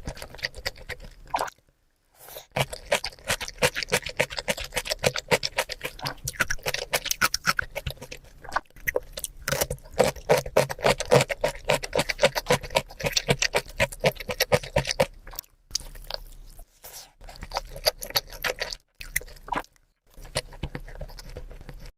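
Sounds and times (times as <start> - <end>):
wet mouth clicks and crunches: 0.0 - 1.6, 2.5 - 21.9
close-miked chewing and eating: 0.0 - 21.9.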